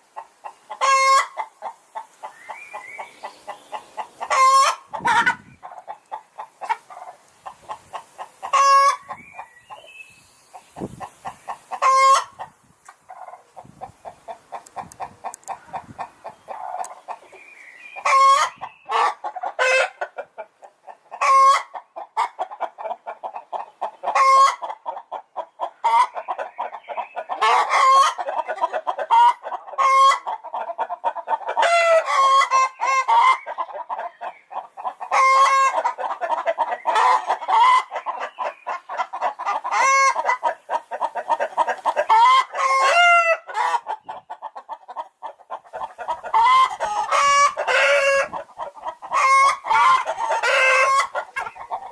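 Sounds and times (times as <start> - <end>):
chickens clucking: 0.0 - 51.9
chickens squawking: 0.0 - 51.9.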